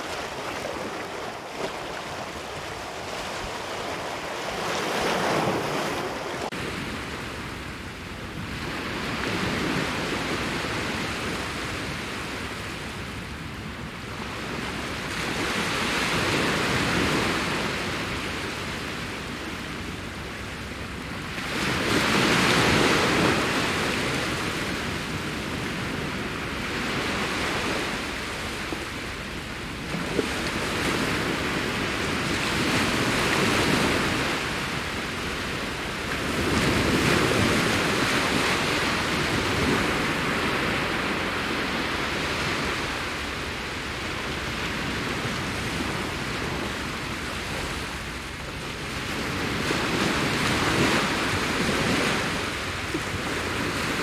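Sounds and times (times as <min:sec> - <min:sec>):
ocean waves breaking on beach: 0:00.0 - 0:54.0
wind: 0:00.0 - 0:54.0.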